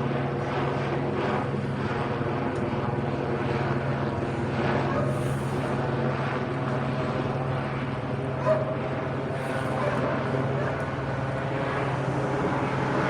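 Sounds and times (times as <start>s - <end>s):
helicopter rotor and turbine drone: 0.0s - 13.0s.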